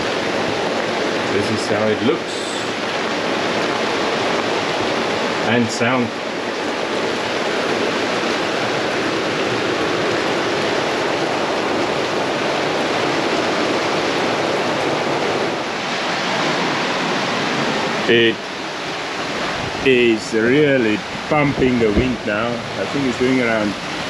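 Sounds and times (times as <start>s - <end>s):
breaking waves: 0.0s - 24.0s
storm wind rushing: 0.0s - 24.0s.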